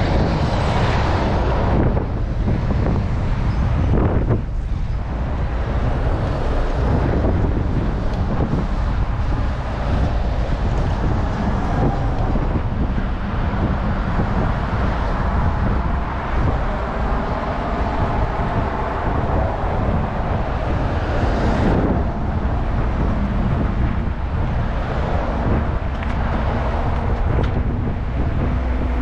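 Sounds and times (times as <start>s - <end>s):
road and tyre noise: 0.0s - 29.0s
wind buffeting microphone: 0.0s - 29.0s.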